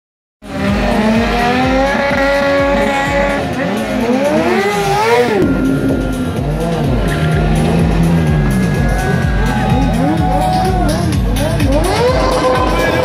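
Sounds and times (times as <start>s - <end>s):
motorcycle engine revving: 0.4s - 13.0s.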